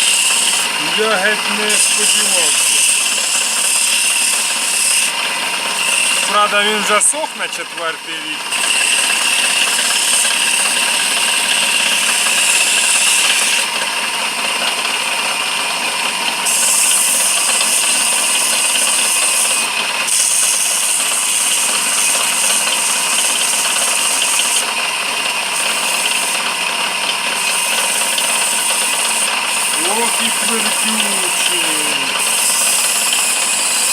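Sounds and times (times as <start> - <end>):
sandpaper hissing on spinning wood: 0.0 - 6.9, 8.5 - 13.7, 16.4 - 24.7, 25.5 - 26.5, 27.2 - 33.9.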